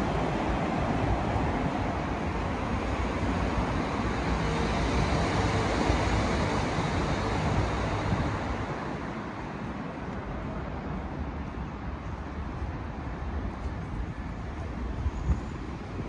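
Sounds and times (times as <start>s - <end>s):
rumble of road traffic overhead: 0.0s - 16.0s.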